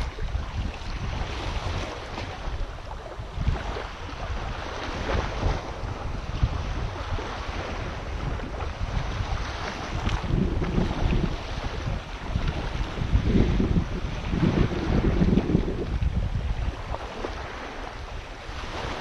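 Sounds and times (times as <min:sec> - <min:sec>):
small waves washing on sand: 0:00.0 - 0:19.0
wind buffeting microphone: 0:00.0 - 0:19.0.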